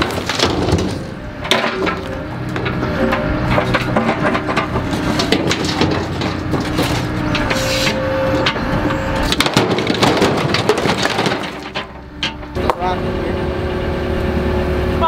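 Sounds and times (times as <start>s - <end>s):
excavator bucket knocks and clanks: 0.0s - 12.8s
excavator diesel engine running: 0.0s - 15.0s.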